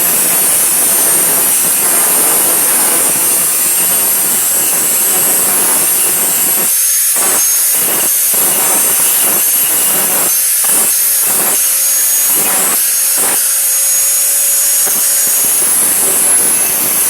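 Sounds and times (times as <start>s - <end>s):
power tool whining on steel plate: 0.0s - 17.0s.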